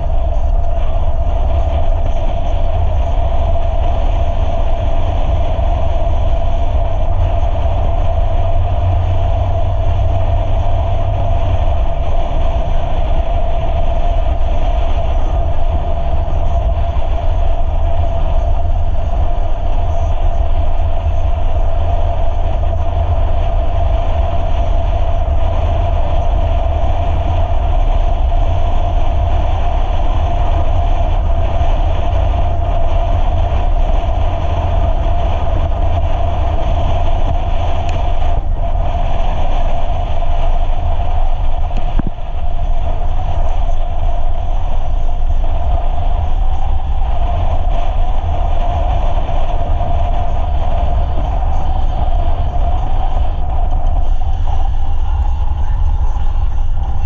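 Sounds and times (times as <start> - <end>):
off-road vehicle on gravel road: 0.0 - 57.0.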